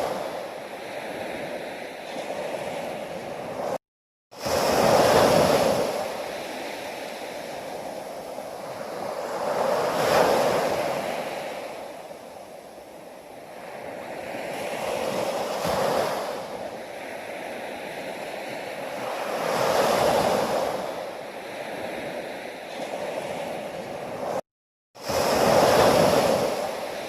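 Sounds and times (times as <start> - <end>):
ocean waves breaking on shore: 0.0 - 24.4, 25.0 - 27.0.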